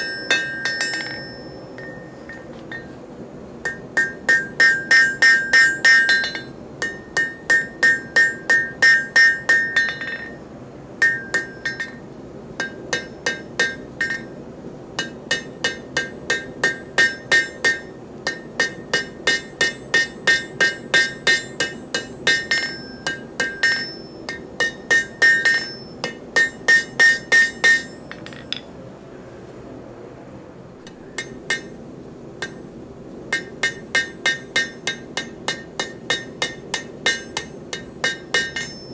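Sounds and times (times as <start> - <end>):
hammer striking hot steel on anvil: 0.0 - 3.0, 3.6 - 10.4, 11.0 - 14.4, 15.0 - 28.7, 30.8 - 31.8, 32.4 - 32.6, 33.3 - 38.9.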